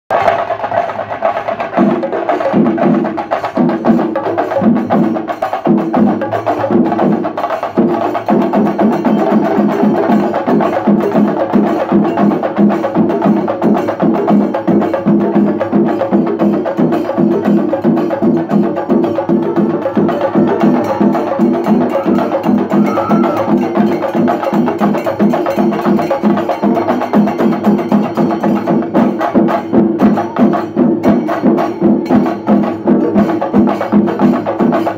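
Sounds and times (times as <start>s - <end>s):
cymbals: 0.1s - 34.9s
drums beaten with sticks: 0.1s - 34.9s.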